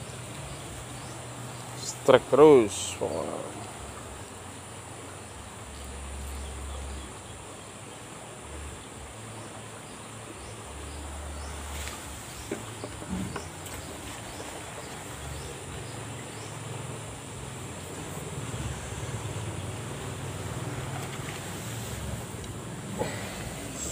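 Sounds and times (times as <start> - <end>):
low rumble on microphone: 3.4 - 23.9.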